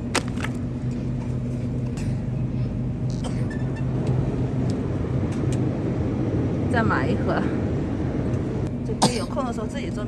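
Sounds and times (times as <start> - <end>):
low hum and rumble: 0.0 - 10.0.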